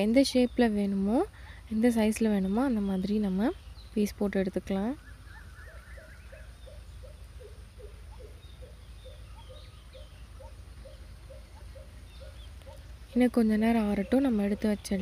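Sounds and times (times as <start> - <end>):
bird calling: 0.0 - 15.0.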